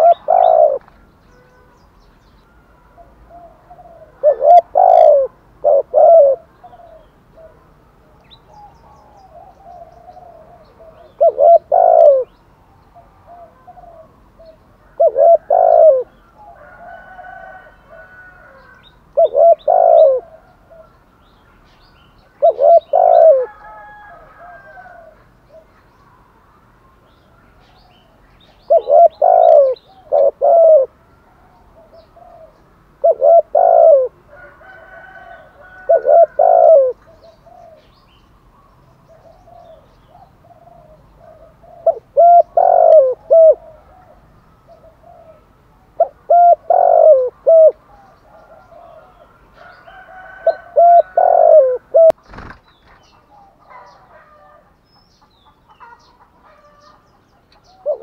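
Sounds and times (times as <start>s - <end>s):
dove cooing: 0.0s - 1.7s, 2.8s - 21.0s, 22.3s - 25.8s, 27.8s - 38.0s, 38.6s - 52.5s, 55.8s - 58.0s.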